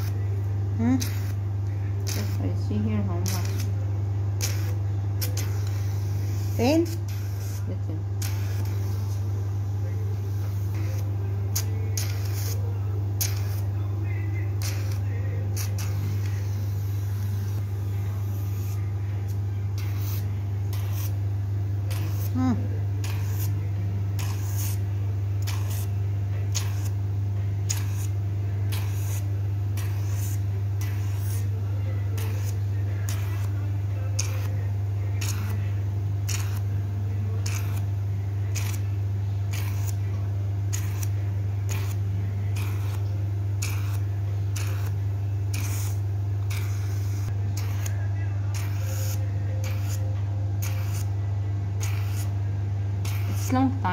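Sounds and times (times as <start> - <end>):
machine humming: 0.0 - 53.9.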